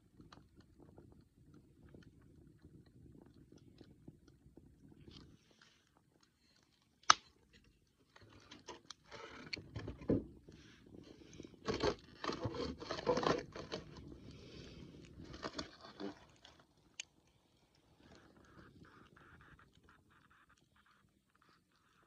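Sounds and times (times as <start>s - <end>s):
wood campfire crackling: 0.0s - 12.3s, 13.8s - 22.0s.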